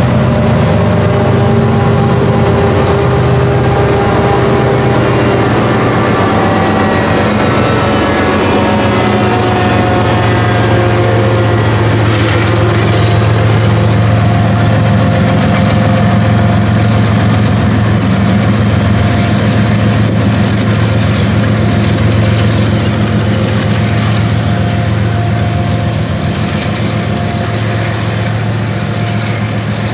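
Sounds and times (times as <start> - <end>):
diesel locomotives passing: 0.0 - 29.9.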